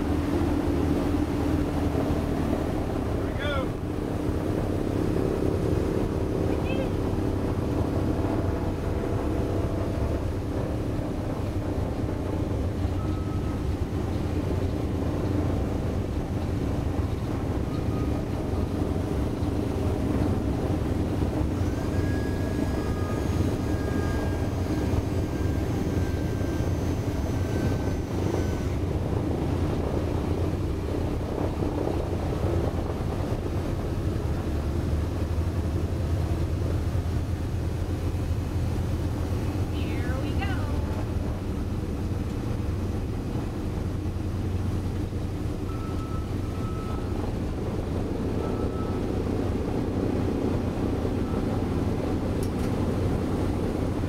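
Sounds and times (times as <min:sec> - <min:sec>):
radial aircraft engines running: 0:00.0 - 0:54.0.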